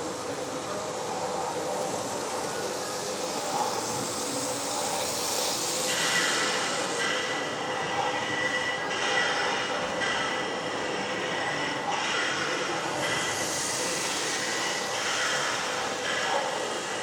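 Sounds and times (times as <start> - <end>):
model train running on track: 0.0 - 17.0
steady high squeal: 0.1 - 17.0.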